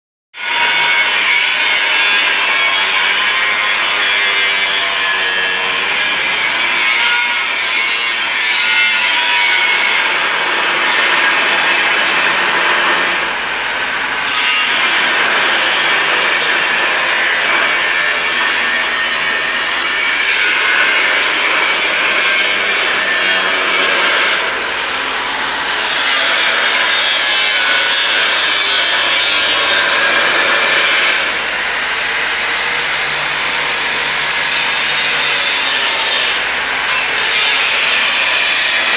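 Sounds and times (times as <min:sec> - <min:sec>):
electric grinder grinding metal: 0:00.4 - 0:38.9.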